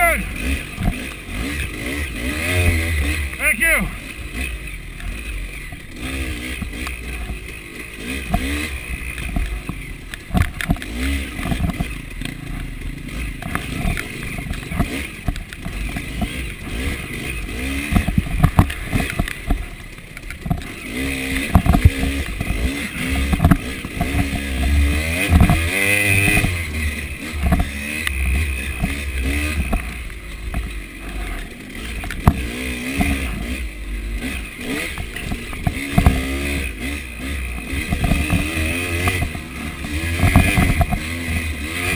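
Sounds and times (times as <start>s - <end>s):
dirt bike engine revving: 0.0s - 41.9s
bike knocks and rattles: 0.4s - 2.9s, 5.0s - 33.6s, 34.2s - 41.9s.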